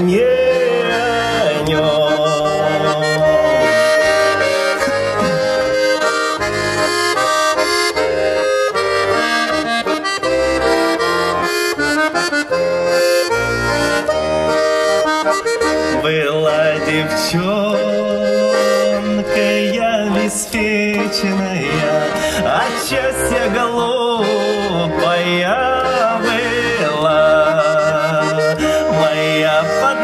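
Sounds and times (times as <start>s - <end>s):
button accordion playing: 0.0s - 30.0s.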